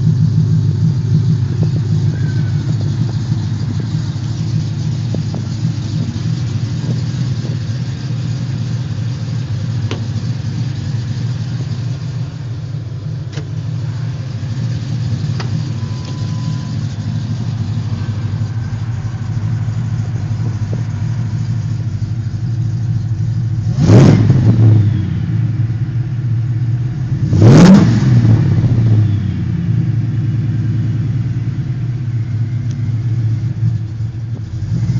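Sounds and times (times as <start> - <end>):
truck engine idling and revving: 0.0 - 34.9.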